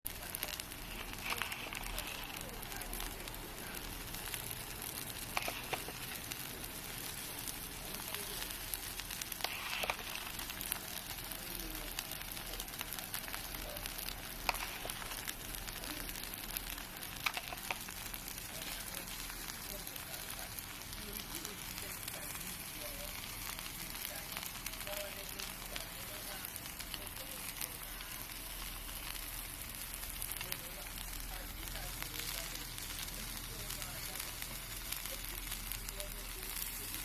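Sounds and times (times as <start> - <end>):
batter sizzling in a hot pan: 0.1 - 37.0.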